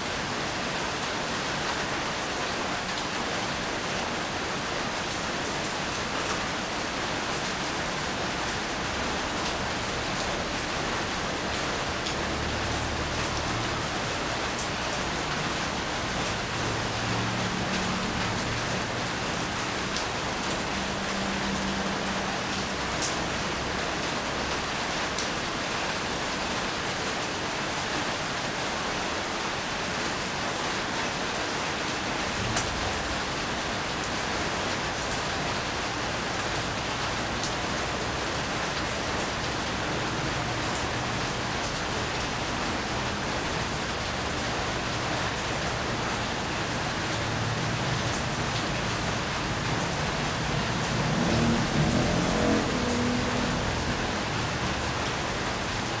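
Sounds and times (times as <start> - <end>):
rain falling: 0.0 - 56.0
raindrops ticking close by: 0.4 - 56.0.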